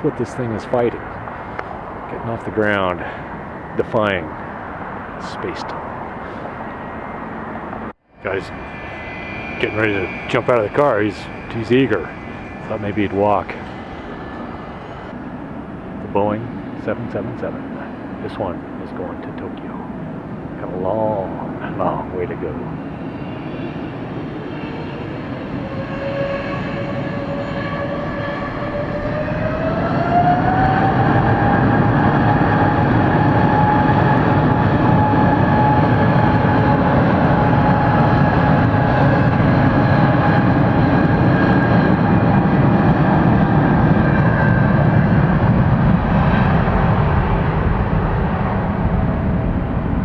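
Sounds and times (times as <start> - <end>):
jet engines spooling up: 0.0 - 50.0.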